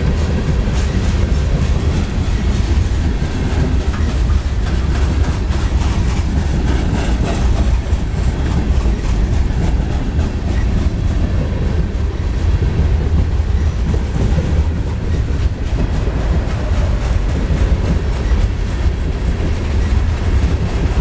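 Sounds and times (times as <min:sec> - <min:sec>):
clatter over rail joints: 0:00.0 - 0:21.0
train wheels rumbling on track: 0:00.0 - 0:21.0.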